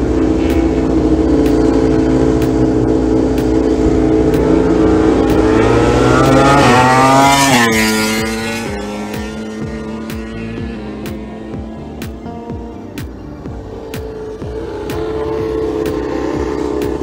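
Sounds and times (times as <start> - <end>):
racing motorcycle passing by: 0.0 - 17.0.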